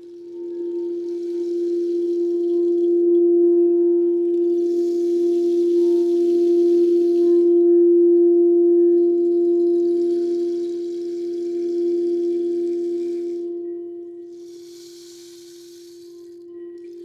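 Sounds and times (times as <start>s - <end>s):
soft high hiss: 0.0s - 7.7s, 9.0s - 17.0s
singing bowl ringing: 0.0s - 17.0s.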